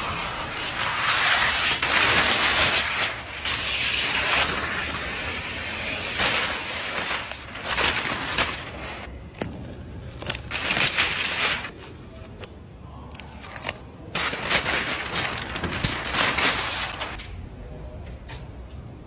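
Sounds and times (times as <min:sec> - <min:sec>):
wrapping paper tearing and rustling: 0:00.0 - 0:17.2.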